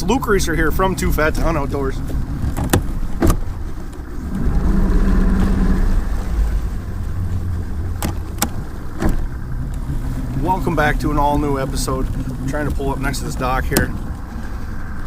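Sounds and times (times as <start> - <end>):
boat motor rumbling: 0.0 - 15.0.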